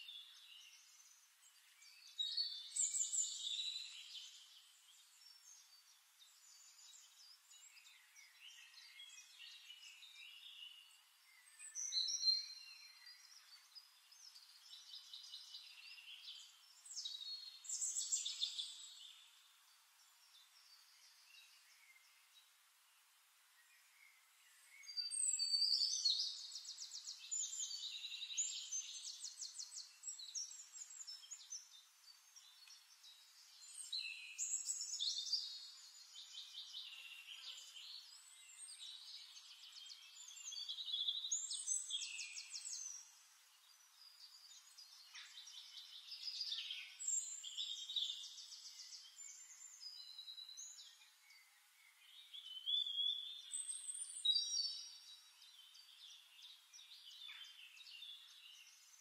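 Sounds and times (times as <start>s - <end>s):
songbird trilling and chirping: 0.0s - 22.3s, 23.8s - 59.0s.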